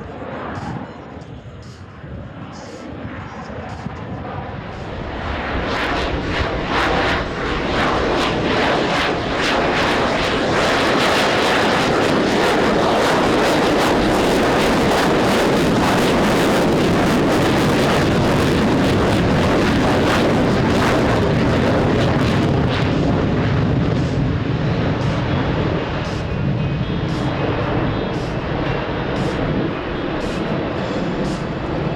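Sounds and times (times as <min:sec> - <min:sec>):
jet engine blast with crackle: 0:02.6 - 0:31.9.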